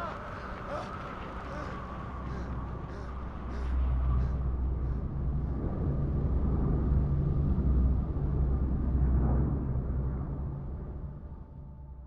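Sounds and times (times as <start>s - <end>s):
turboprop plane drone in flight: 0.2s - 12.0s.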